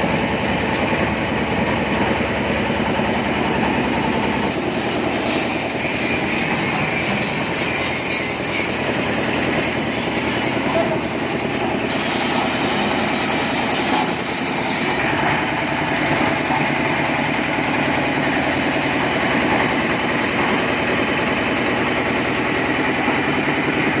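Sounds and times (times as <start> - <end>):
concrete mixer running: 0.0 - 24.0.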